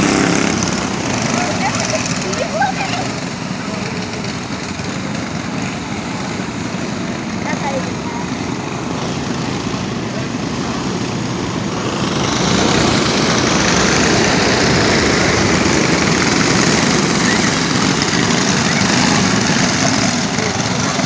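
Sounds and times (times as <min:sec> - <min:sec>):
go-kart engines passing: 0:00.0 - 0:21.0.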